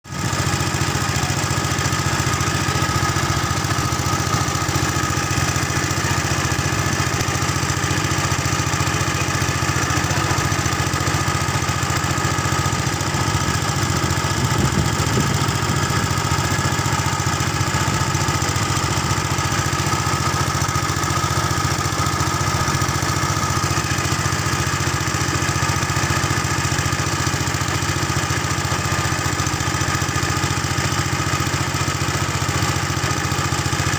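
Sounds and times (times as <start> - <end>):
engine running steadily: 0.1 - 33.9.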